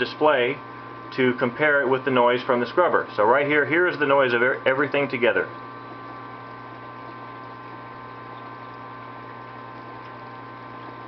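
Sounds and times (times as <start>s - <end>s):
aquarium pumps humming: 0.0s - 11.0s.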